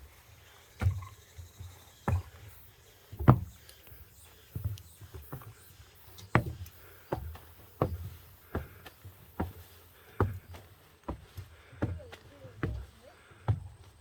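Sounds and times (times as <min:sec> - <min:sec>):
footsteps on a trail: 0:00.0 - 0:14.0.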